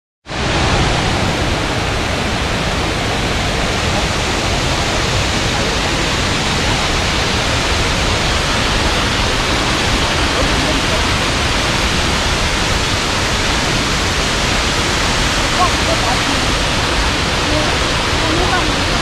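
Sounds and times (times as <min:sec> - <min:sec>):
waterfall rushing onto rock: 0:00.3 - 0:19.0.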